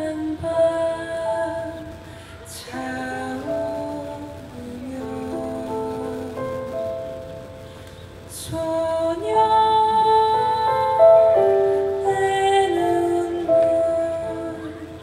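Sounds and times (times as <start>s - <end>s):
slow instrumental ballad: 0.0s - 15.0s.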